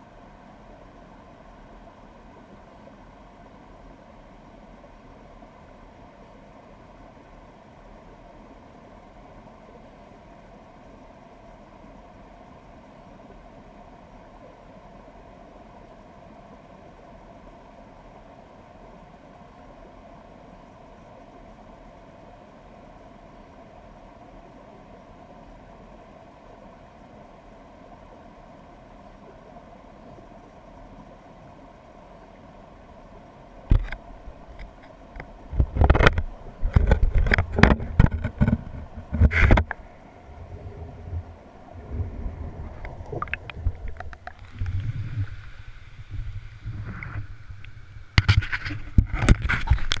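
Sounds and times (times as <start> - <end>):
low underwater noise: 0.0 - 50.0.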